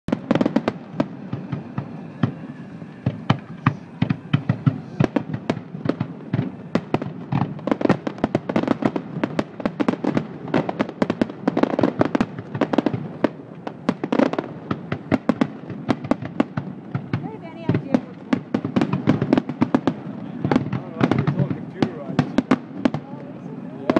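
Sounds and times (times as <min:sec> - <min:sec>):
fireworks bursting: 0:00.1 - 0:23.9.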